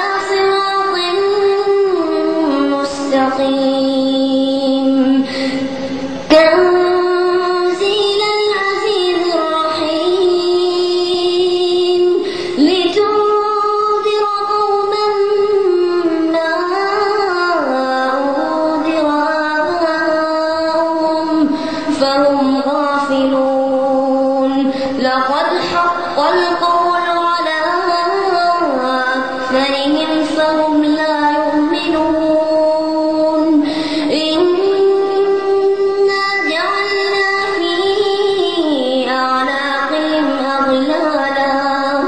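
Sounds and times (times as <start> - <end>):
boy chanting melodically: 0.0 - 42.0.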